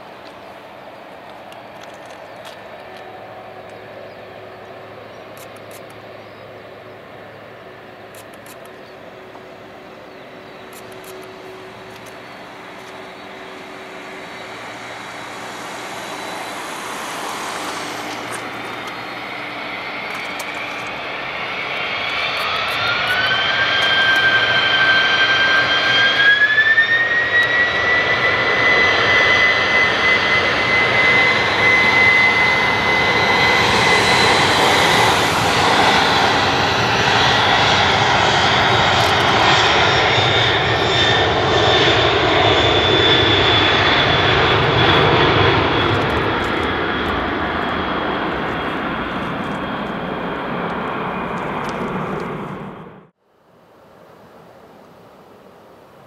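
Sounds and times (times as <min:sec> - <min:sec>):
rising engine whine: 0:00.0 - 0:53.2
jet engines spooling up: 0:00.1 - 0:53.2.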